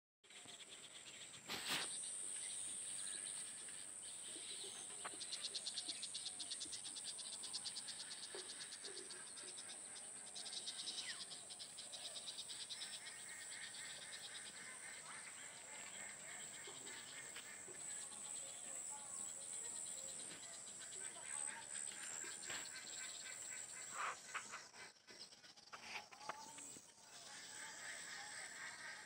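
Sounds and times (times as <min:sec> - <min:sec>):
insects chirping: 0:00.9 - 0:29.0.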